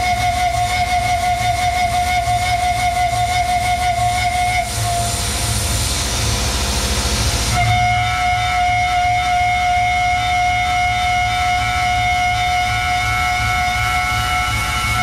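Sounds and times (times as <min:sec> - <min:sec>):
hiss: 0:00.0 - 0:15.0
low pulsing hum: 0:00.0 - 0:15.0
milling machine whine: 0:00.0 - 0:15.0.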